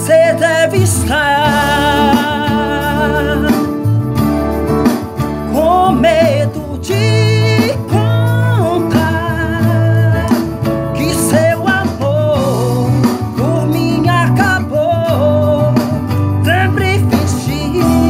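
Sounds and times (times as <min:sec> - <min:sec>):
man singing: 0:00.0 - 0:04.0, 0:05.4 - 0:18.0
guitar accompaniment: 0:00.0 - 0:18.0
low bass: 0:00.0 - 0:18.0.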